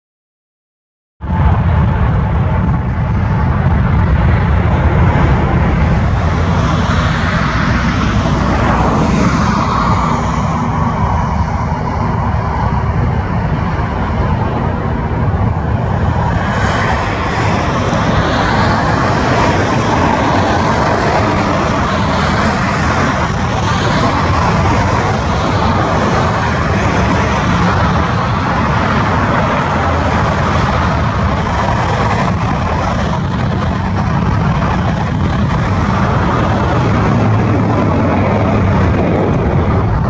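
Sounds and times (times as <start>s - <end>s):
jet airliner passing: 1.2s - 40.0s.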